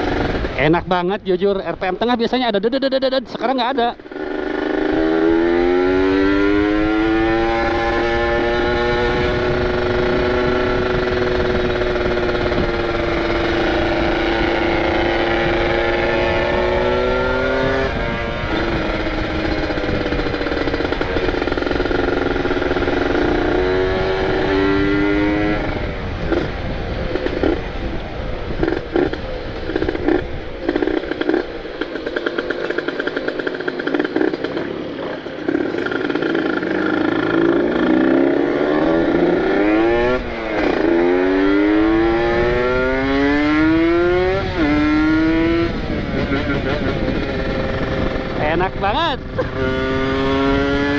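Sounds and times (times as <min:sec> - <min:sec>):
motorcycle engine revving: 0:00.0 - 0:01.0, 0:03.2 - 0:50.9.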